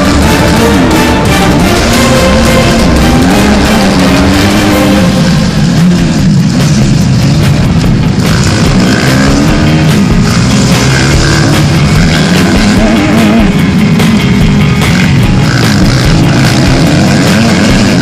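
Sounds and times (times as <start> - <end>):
background music: 0.0 - 18.0
motocross bike engine revving: 0.0 - 18.0.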